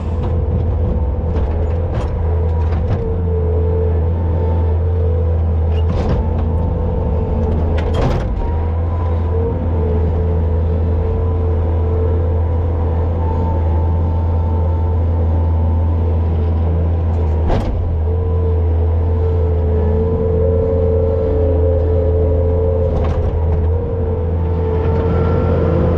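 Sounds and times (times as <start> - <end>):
vehicle engine running with whine: 0.0 - 25.9.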